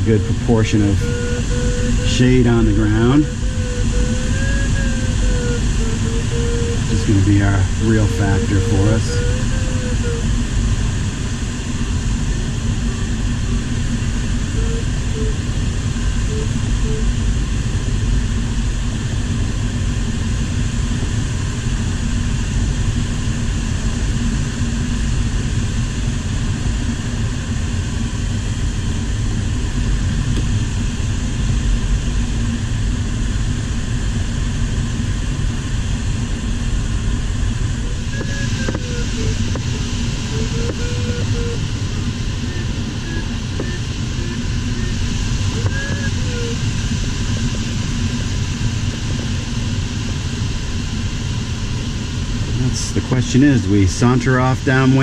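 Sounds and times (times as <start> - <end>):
air rushing around glider cockpit: 0.0 - 55.0.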